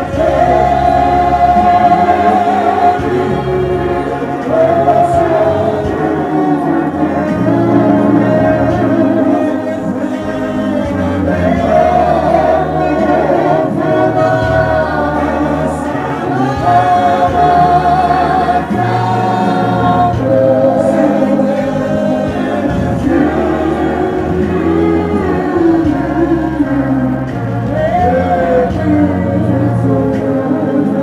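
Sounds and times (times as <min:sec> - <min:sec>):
gospel choir singing: 0:00.0 - 0:31.0.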